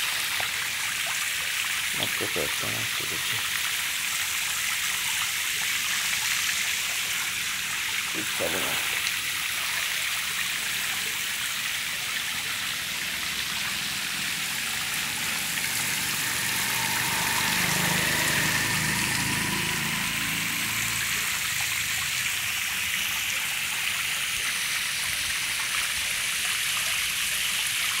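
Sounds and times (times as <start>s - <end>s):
hose spraying water into tank: 0.0s - 28.0s.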